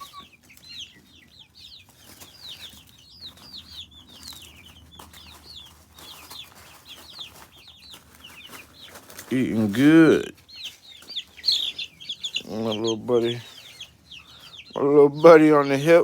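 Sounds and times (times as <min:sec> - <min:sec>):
chickens chirping: 0:00.0 - 0:16.0.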